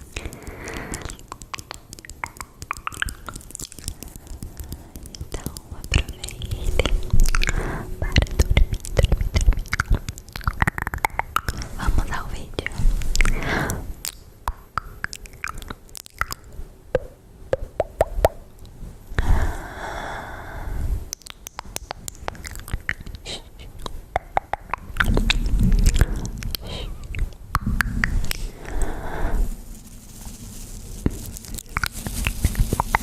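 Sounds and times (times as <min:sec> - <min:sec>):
wet mouth clicks and smacks: 0:00.0 - 0:18.8, 0:21.1 - 0:29.0, 0:31.5 - 0:33.0.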